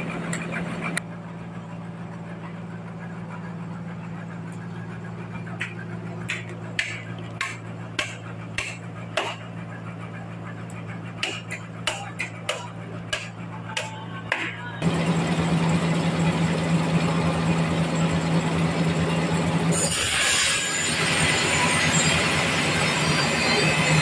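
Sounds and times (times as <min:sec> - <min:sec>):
engine idling low hum: 0:00.0 - 0:19.8.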